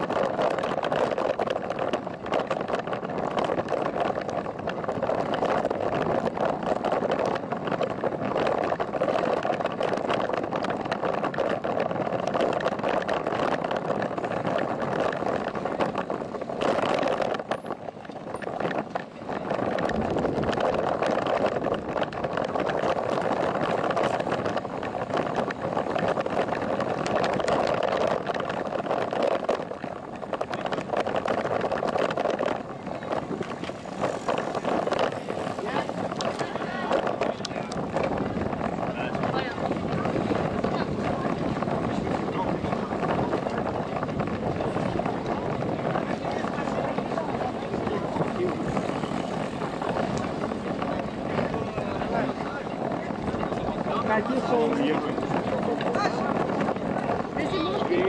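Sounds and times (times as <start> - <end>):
bicycle rolling: 0.0 - 58.0
road rumble: 0.0 - 58.0
wind: 0.0 - 58.0.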